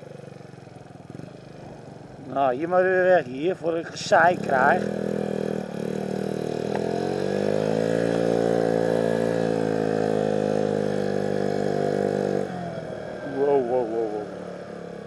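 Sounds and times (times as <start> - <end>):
scooter engine accelerating: 0.0 - 15.0.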